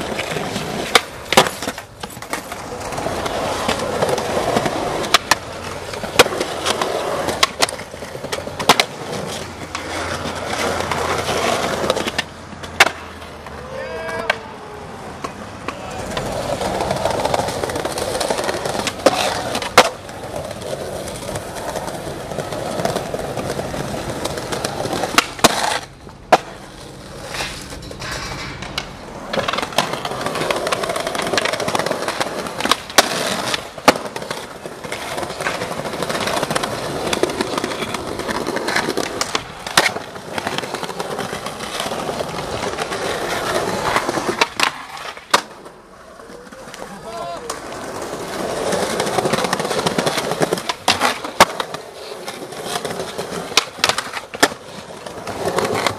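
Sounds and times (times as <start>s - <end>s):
skateboard popping and landing: 0.0s - 55.9s
skateboard wheels rolling on stone: 0.0s - 55.9s.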